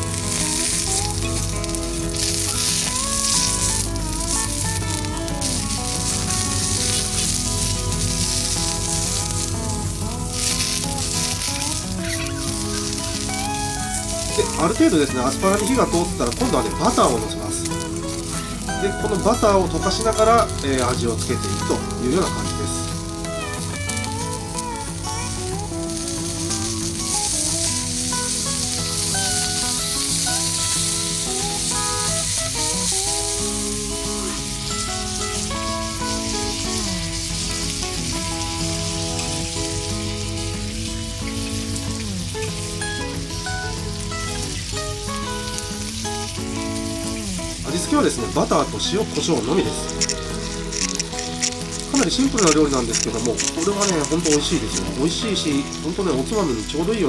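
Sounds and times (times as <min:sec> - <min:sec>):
background music: 0:00.0 - 0:57.0
vegetables sizzling in oil: 0:00.0 - 0:57.0.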